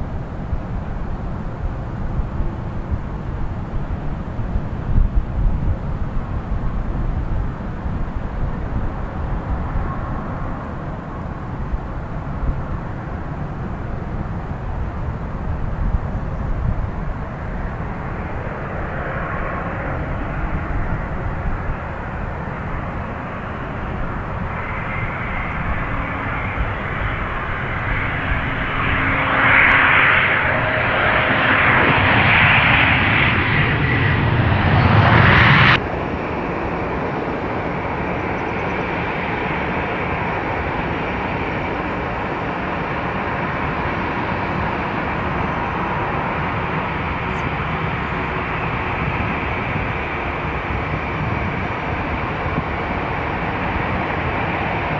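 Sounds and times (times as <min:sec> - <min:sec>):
jet airliner landing: 0:00.0 - 0:54.9.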